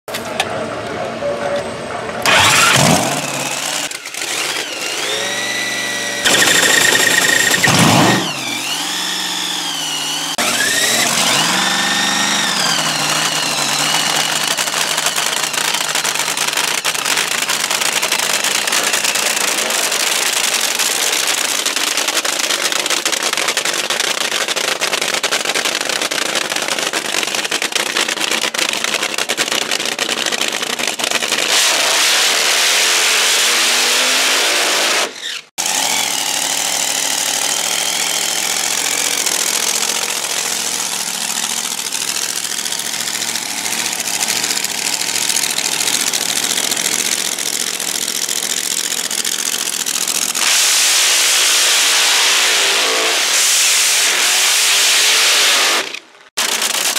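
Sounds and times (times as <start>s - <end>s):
drag car engine revving: 2.1s - 56.9s.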